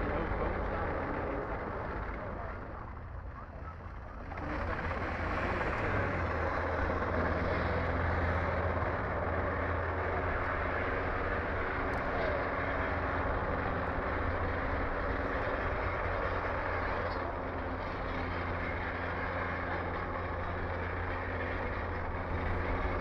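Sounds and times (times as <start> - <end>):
helicopter rotors droning: 0.0 - 23.0.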